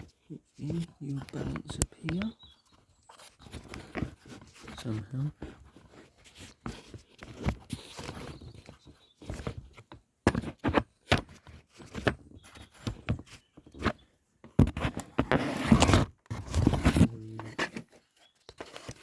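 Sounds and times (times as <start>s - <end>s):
camera handling knocks and rubbing: 0.8s - 19.0s.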